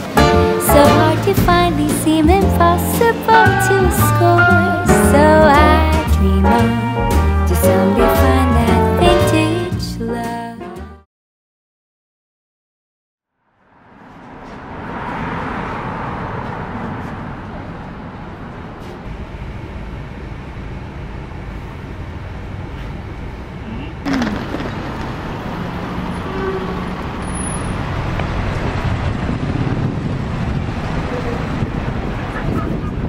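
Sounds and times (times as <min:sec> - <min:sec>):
rumble of city traffic: 0:00.0 - 0:10.0, 0:13.4 - 0:33.0.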